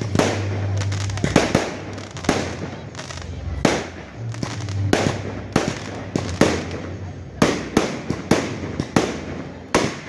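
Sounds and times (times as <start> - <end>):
fireworks bursting with bangs: 0.0 - 10.0.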